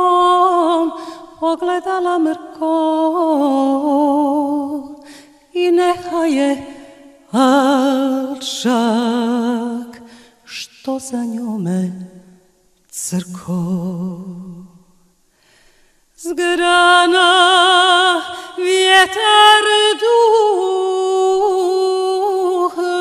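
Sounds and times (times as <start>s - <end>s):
person singing unaccompanied: 0.0s - 14.9s, 16.2s - 23.0s.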